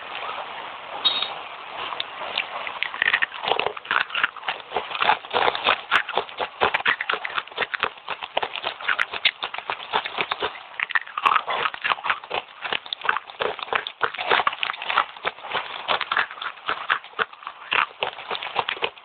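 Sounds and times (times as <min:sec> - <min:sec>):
crunching and chewing clay: 0:02.0 - 0:19.0.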